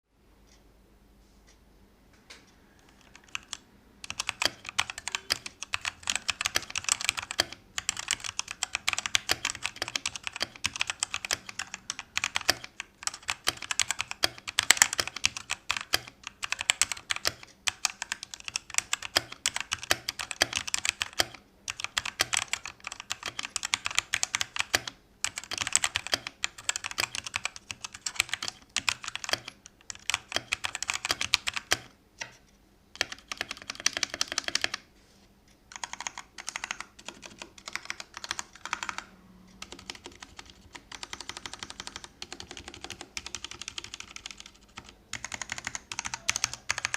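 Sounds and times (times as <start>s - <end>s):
mechanical keyboard typing clatter: 2.8s - 32.0s, 33.0s - 34.9s, 35.7s - 46.9s.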